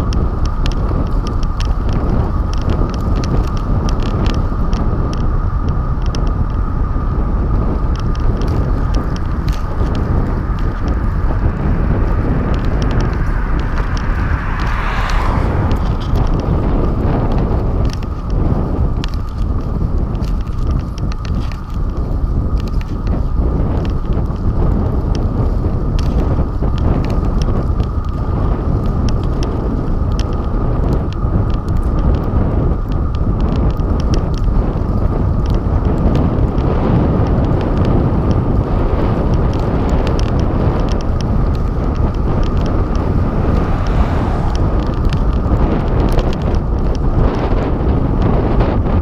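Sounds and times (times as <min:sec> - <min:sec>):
small clicks and rattles: 0:00.0 - 0:06.6, 0:07.5 - 0:15.2, 0:17.3 - 0:49.0
tyre and road noise: 0:00.0 - 0:49.0
wind buffeting microphone: 0:00.0 - 0:49.0.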